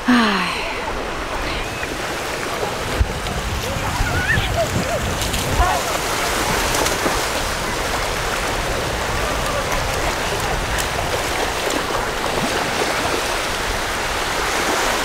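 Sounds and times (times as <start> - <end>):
small waves washing on shore: 0.0 - 15.0.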